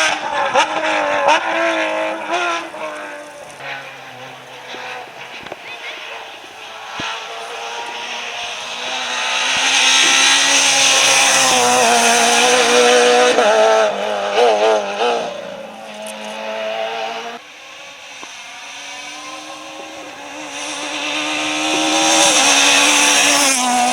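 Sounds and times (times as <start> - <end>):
rally car engine passing: 0.0 - 23.9
road noise: 0.0 - 23.9.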